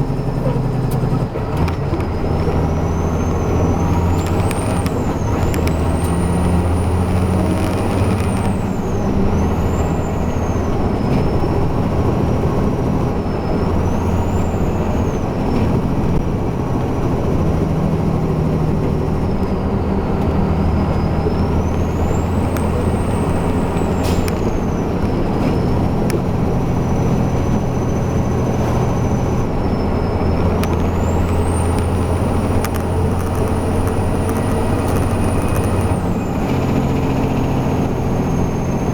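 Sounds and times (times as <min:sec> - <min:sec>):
diesel truck engine drone: 0:00.0 - 0:38.9.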